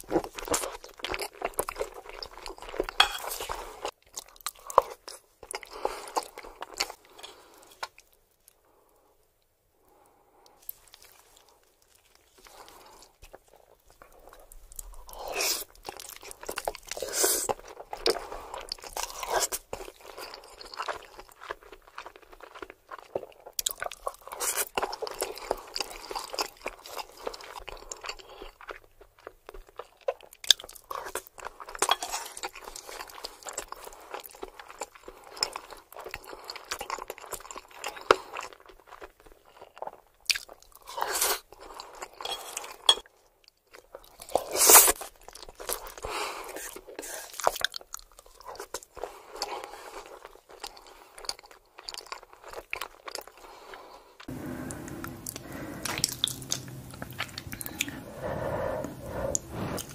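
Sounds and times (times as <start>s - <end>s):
chewing with clicks and smacks: 0.0s - 8.6s, 10.4s - 59.9s.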